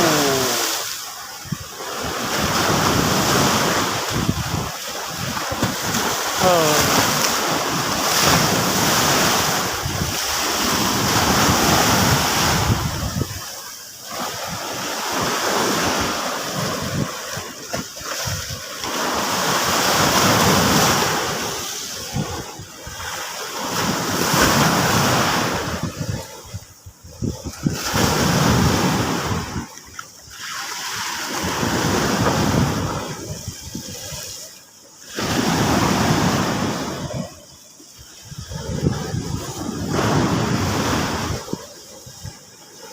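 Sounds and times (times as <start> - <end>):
sea waves breaking on beach: 0.0 - 42.9.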